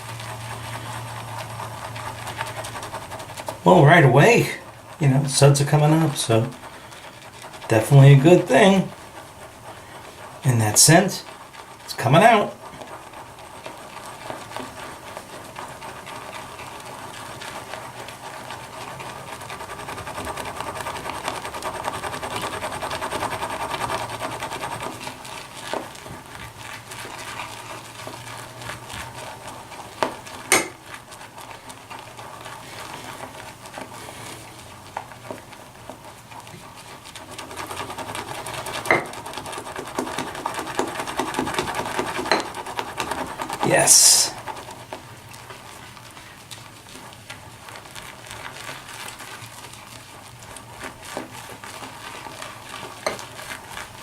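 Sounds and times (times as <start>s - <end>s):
brush swishing lather in bowl: 0.0s - 54.0s.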